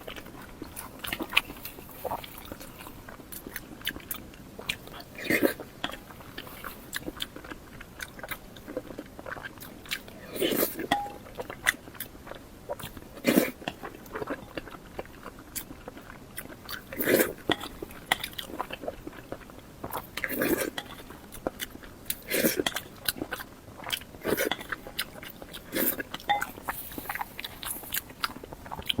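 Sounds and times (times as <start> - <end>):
chewing food: 0.0 - 29.0.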